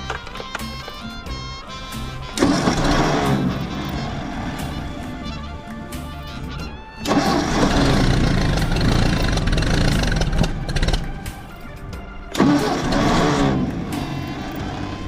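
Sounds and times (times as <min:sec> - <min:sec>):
tractor engine starting: 0:00.0 - 0:15.0.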